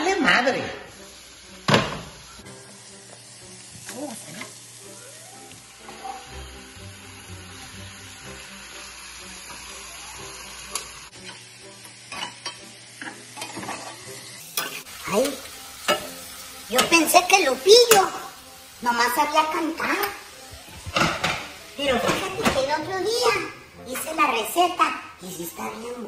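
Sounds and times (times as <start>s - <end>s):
fish and vegetables sizzling: 0.0s - 26.0s.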